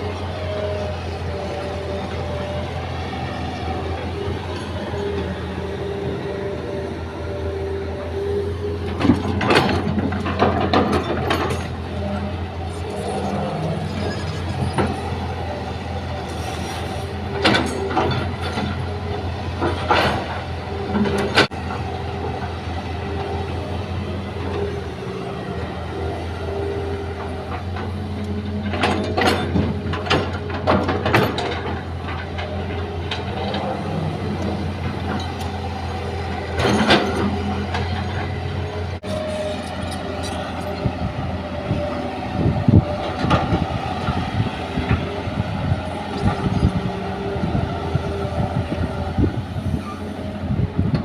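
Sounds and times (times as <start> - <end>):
excavator diesel drone: 0.0 - 51.0.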